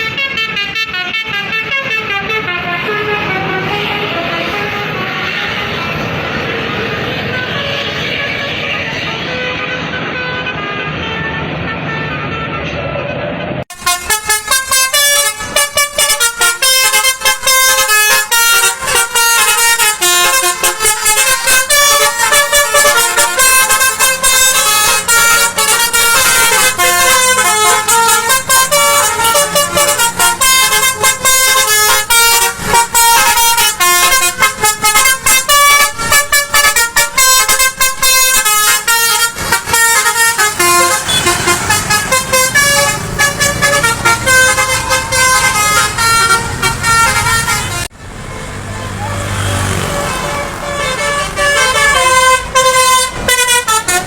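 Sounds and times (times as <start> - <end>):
bus horn playing a fast tune: 0.0 - 12.9, 13.7 - 48.0, 48.8 - 54.0.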